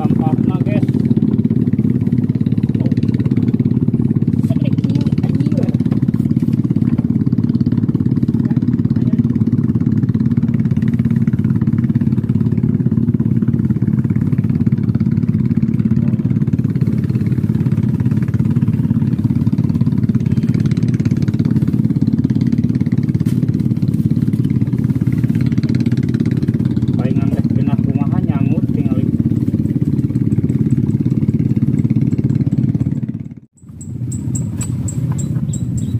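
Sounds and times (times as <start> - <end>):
engine droning steadily: 0.0 - 35.9.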